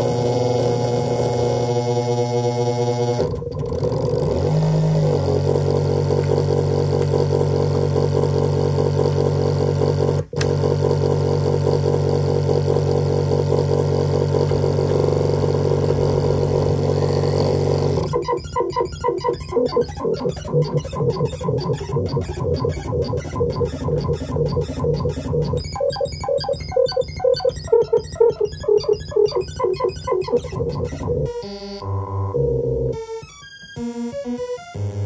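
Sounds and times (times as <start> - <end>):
buzzing synthesizer drone: 0.0 - 35.0.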